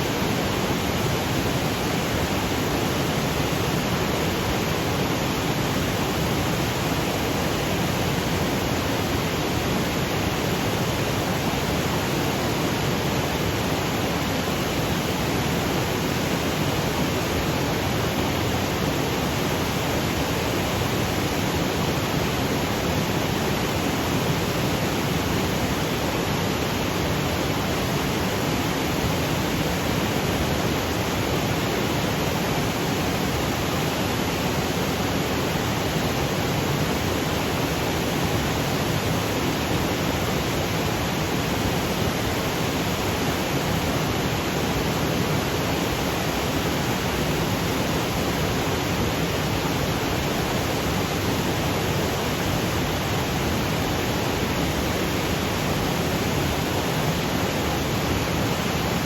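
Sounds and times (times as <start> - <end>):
waterfall rushing over boulders: 0.0 - 59.0.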